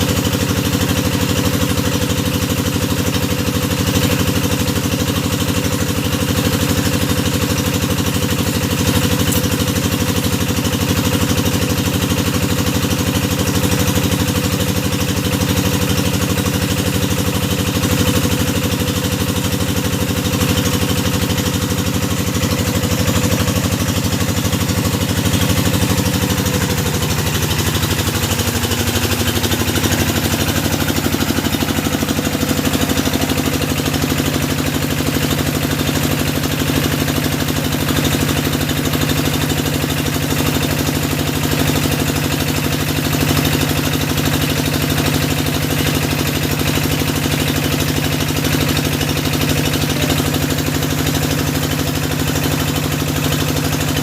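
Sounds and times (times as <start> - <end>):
drilling machine engine running: 0.0 - 54.0.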